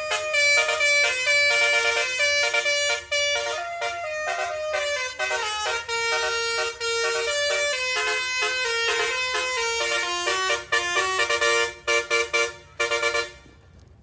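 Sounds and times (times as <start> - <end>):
multi-tone air horn melody: 0.0 - 13.6.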